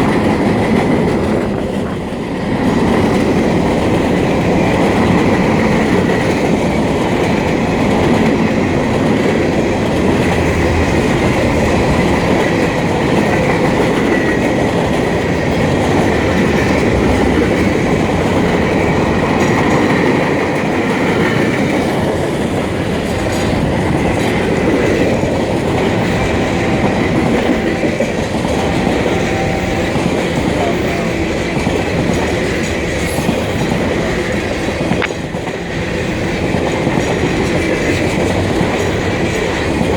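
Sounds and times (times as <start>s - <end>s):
freight train rumbling: 0.0s - 39.9s
wheels clacking over rail joints: 0.0s - 39.9s.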